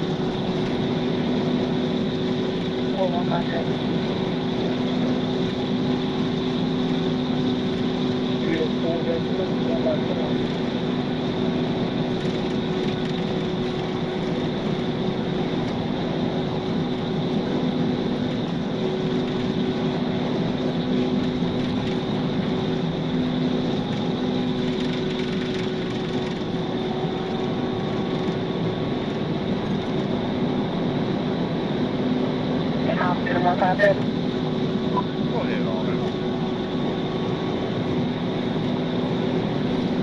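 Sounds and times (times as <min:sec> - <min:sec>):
car engine and road noise: 0:00.0 - 0:40.0
constant low hum: 0:00.0 - 0:40.0.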